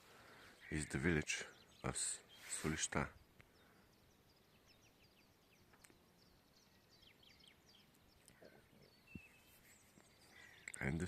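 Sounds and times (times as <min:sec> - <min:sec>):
faint birdsong chirps and trills: 0:00.0 - 0:11.0.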